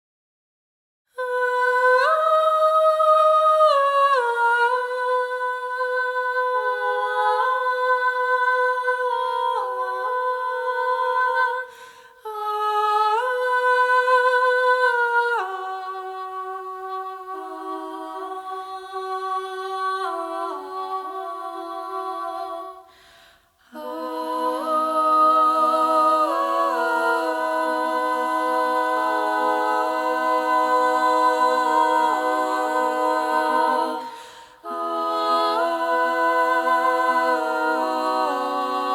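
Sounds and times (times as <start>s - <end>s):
female choir singing a cappella: 1.1s - 38.9s.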